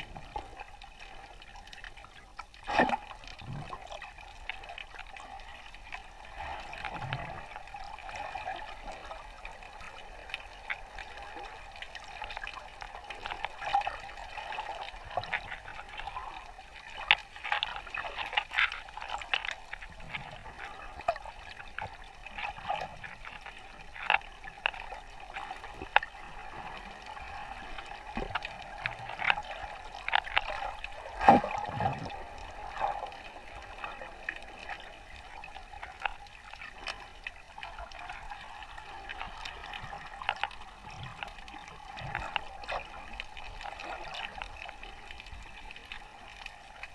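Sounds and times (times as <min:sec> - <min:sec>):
underwater crackling clicks: 0:00.0 - 0:46.9
water gurgling: 0:00.0 - 0:46.9.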